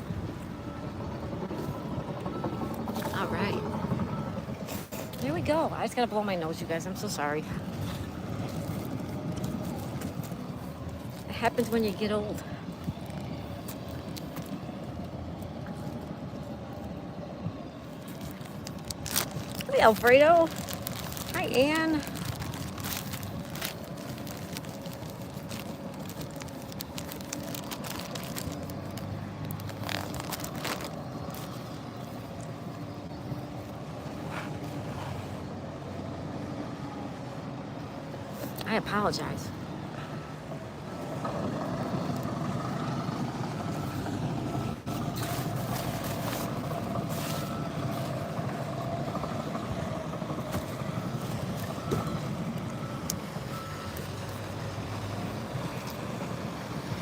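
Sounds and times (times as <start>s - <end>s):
large vehicle engine running: 0.0s - 57.0s.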